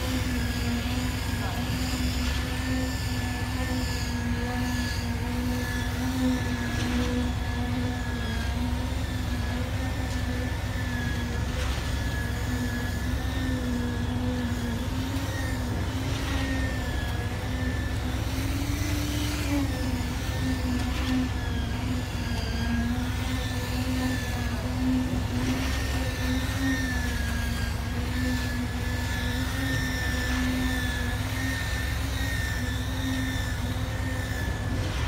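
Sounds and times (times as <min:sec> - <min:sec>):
low engine drone: 0:00.0 - 0:35.0
wavering whine: 0:00.0 - 0:35.0.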